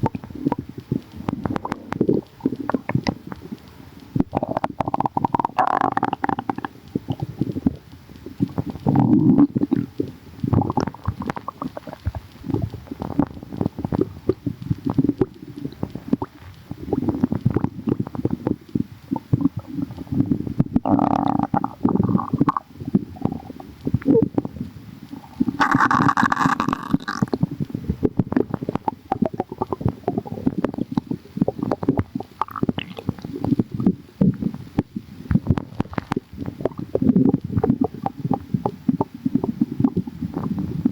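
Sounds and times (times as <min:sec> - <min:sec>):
stomach rumbling and gurgling: 0:00.0 - 0:40.9.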